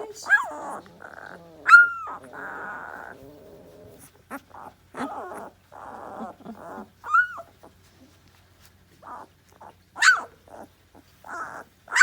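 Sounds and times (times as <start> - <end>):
puppies whining and grunting: 0.0 - 8.3, 8.9 - 12.0.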